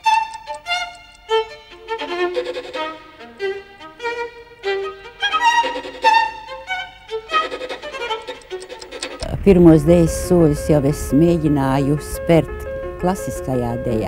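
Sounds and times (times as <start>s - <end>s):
quick violin melody: 0.0s - 14.0s.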